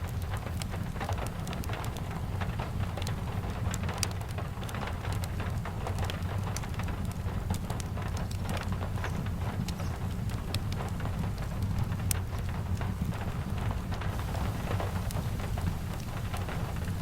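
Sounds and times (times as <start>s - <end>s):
steady rain falling: 0.0s - 17.0s
fireplace crackling: 0.1s - 17.0s.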